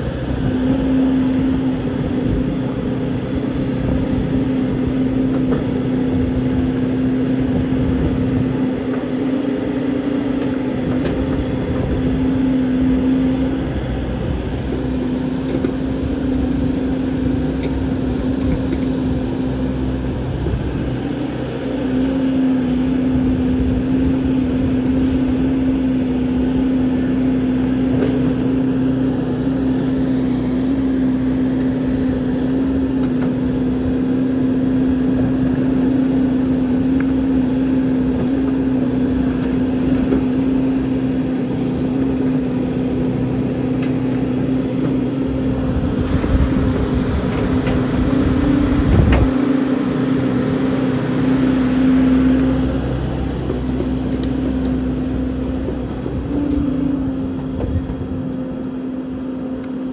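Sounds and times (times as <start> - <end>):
backhoe engine droning: 0.0 - 59.9.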